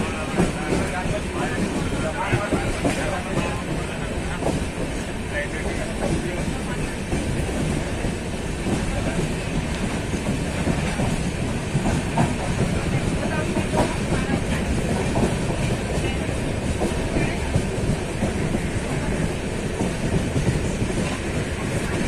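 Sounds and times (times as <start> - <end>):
train knocks and clatter: 0.0 - 22.0
train wheels rumbling on rails: 0.0 - 22.0.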